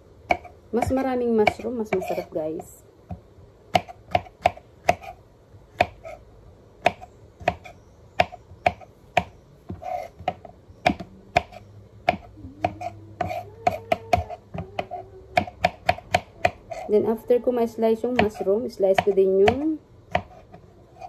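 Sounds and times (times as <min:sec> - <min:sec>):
knife chopping on cutting board: 0:00.3 - 0:02.3, 0:03.1 - 0:06.2, 0:06.8 - 0:16.8, 0:18.1 - 0:21.0.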